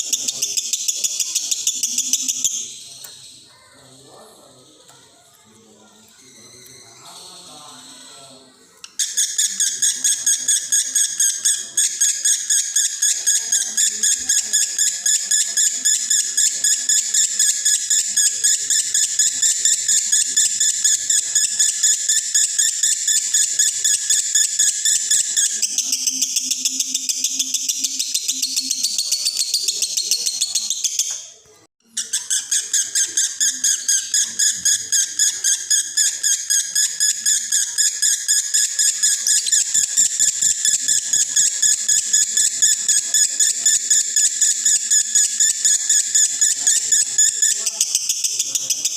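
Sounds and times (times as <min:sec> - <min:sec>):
lovebird chattering trill: 0:00.0 - 0:03.9, 0:08.9 - 0:31.3, 0:31.9 - 0:48.9.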